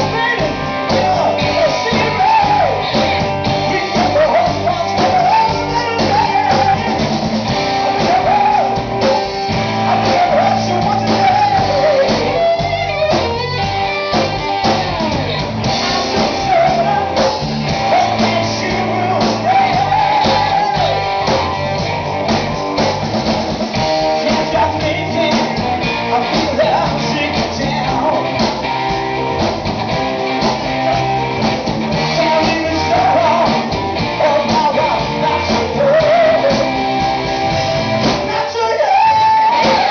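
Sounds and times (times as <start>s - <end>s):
lead vocal singing: 0.0s - 13.5s, 14.6s - 23.0s, 23.7s - 28.8s, 30.3s - 39.9s
live rock band playing: 0.0s - 39.9s.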